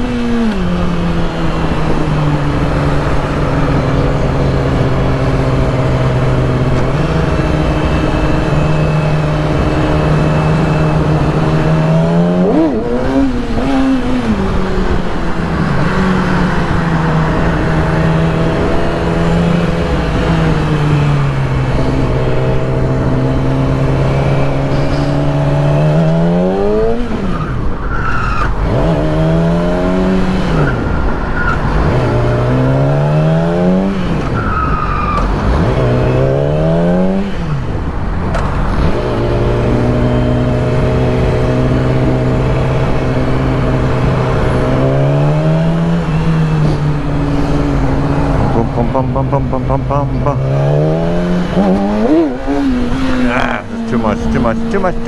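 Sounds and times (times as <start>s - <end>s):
motorcycle engine revving: 0.0s - 27.4s, 28.4s - 34.5s, 35.2s - 55.0s.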